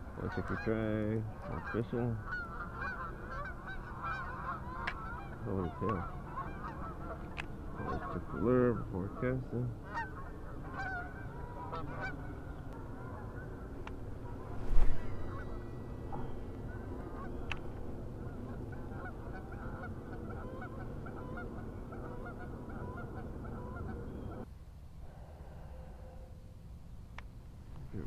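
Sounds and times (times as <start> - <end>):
birds calling: 0.0 - 24.5.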